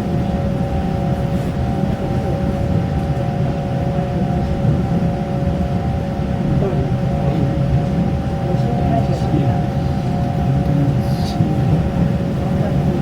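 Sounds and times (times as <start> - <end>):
train running rumble with whine: 0.0 - 13.0.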